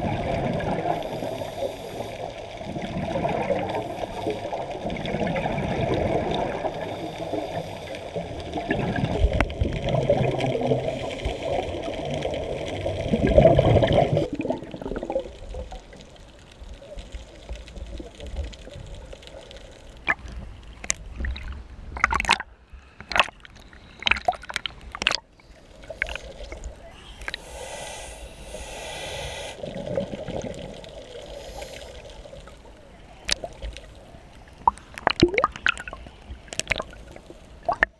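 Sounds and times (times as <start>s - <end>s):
underwater bubbling: 0.0s - 37.9s.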